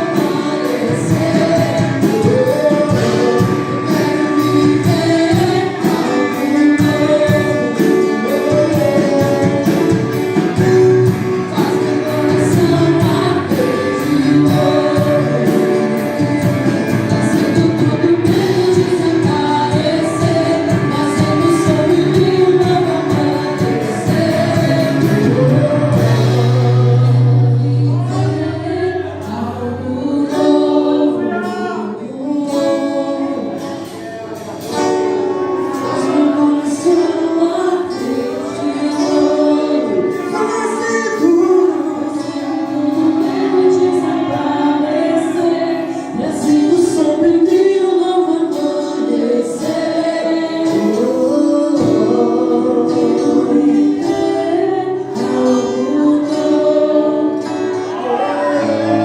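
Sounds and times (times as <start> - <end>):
group singing gospel song: 0.0 - 59.0
instrumental backing with bass: 0.0 - 59.0.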